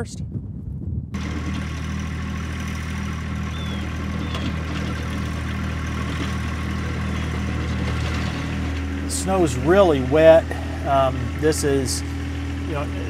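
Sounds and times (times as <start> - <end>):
tractor diesel engine running: 1.2 - 13.0.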